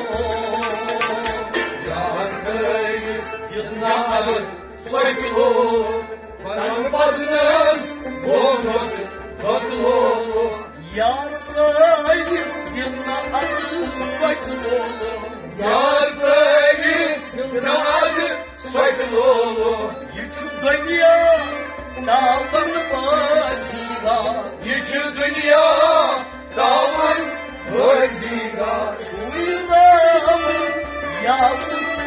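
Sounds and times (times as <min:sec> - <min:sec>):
harmonium: 0:00.0 - 0:32.0
men singing devotional song: 0:00.0 - 0:32.0
rabab: 0:00.0 - 0:32.0.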